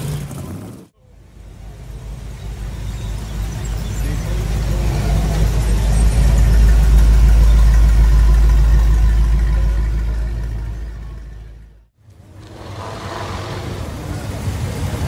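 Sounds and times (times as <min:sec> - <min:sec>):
car engine driving off: 0:00.0 - 0:15.0.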